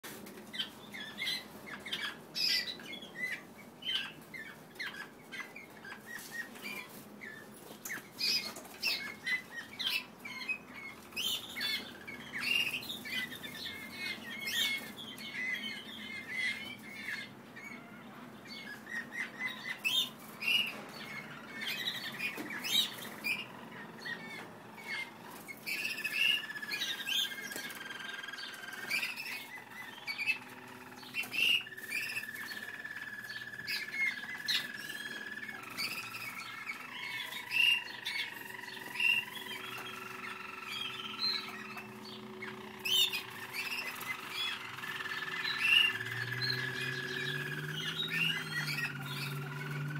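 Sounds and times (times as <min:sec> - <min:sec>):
canaries singing: 0:00.0 - 0:49.9.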